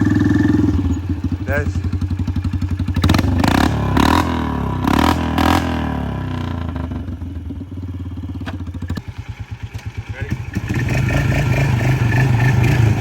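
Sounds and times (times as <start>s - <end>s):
four-wheeler engine idling and revving: 0.0s - 13.0s.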